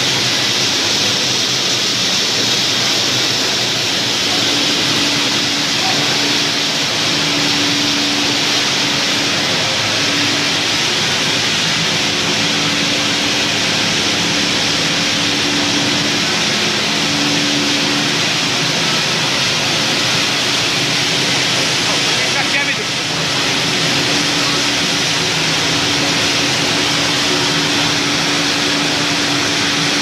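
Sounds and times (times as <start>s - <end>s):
machine hum: 0.0s - 30.0s
mill machinery mechanical din: 0.0s - 30.0s.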